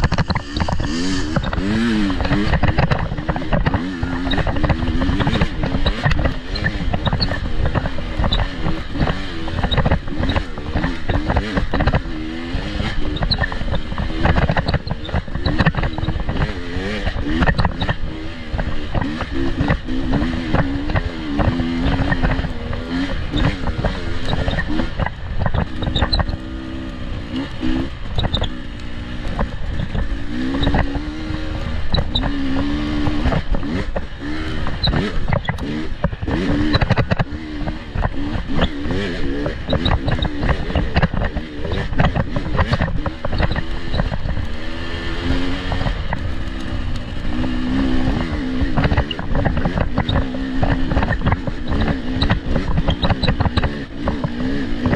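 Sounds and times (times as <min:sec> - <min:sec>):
off-road engine revving: 0:00.0 - 0:54.9.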